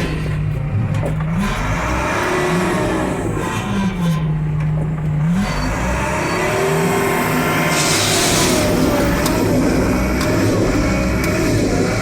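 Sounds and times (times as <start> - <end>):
diesel loader engine under load: 0.0 - 12.0.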